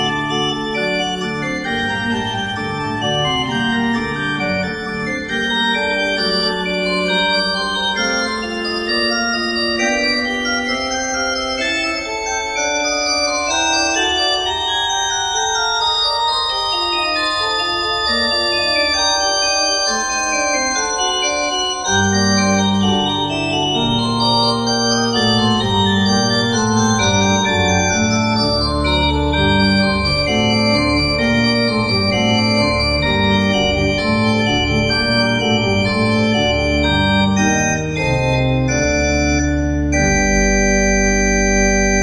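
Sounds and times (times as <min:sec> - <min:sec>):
organ-like keyboard chords: 0:00.0 - 0:42.0.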